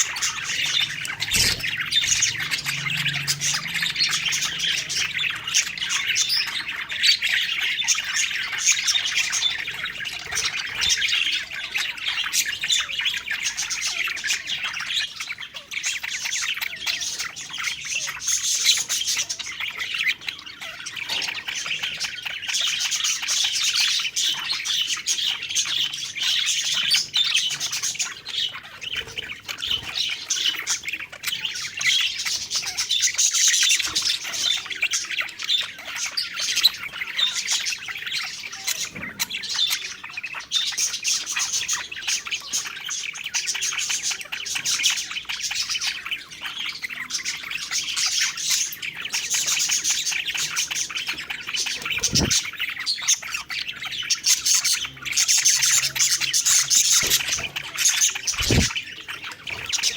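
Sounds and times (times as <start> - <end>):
flock of budgerigars chirping: 0.0 - 59.9.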